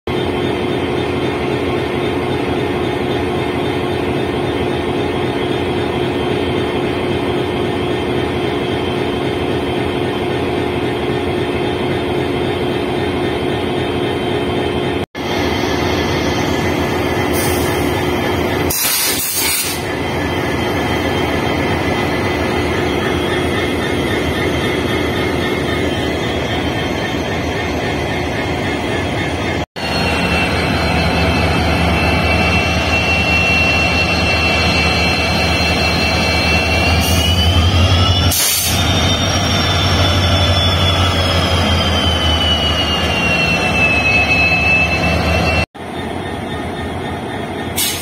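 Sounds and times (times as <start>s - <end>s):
diesel locomotive engine running: 0.1s - 48.0s.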